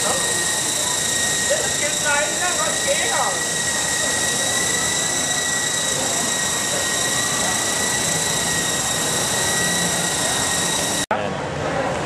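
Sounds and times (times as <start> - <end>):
rotor rushing noise: 0.0 - 11.1
toy helicopter motor whine: 0.0 - 11.1.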